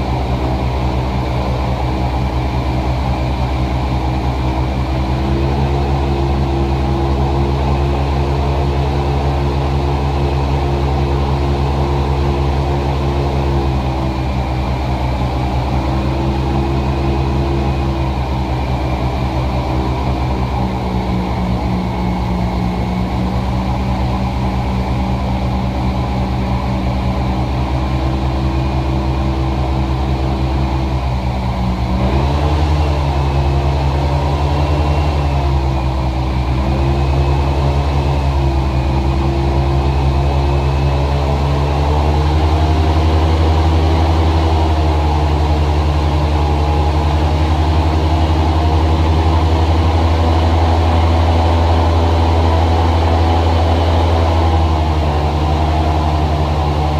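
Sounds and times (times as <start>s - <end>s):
small boat motor running: 0.0s - 56.9s.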